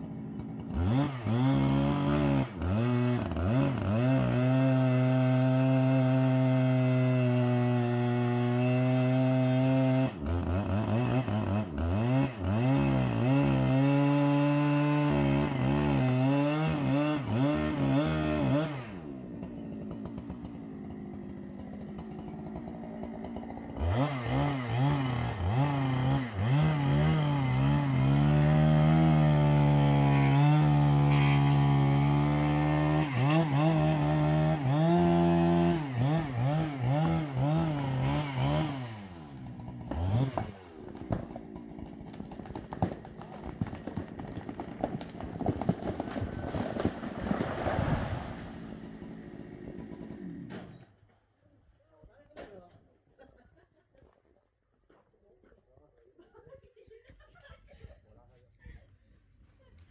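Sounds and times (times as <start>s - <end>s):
chainsaw engine revving: 0.0s - 50.8s.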